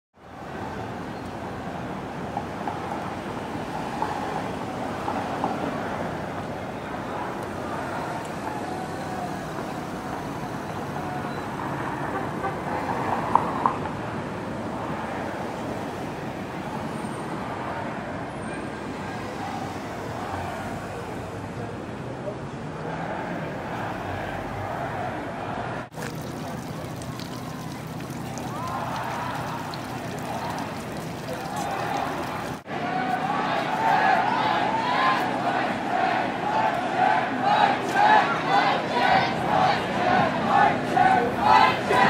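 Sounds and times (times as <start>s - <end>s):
city street traffic: 0.2s - 42.0s.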